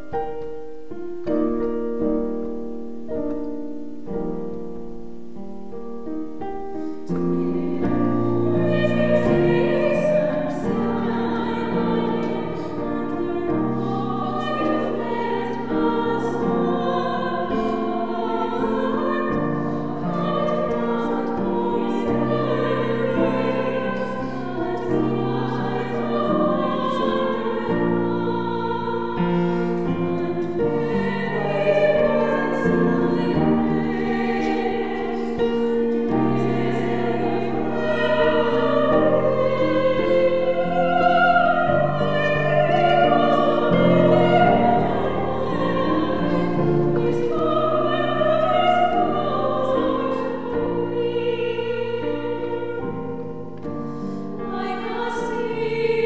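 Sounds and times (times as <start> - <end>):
musical accompaniment: 0.0 - 56.0
two singers singing anthem: 7.3 - 53.1.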